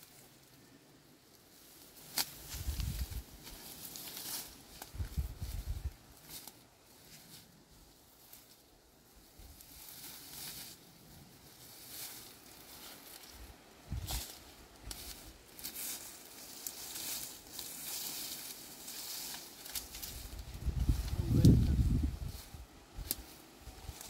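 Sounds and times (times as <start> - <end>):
leaves and brush rustling: 0.0 - 24.0.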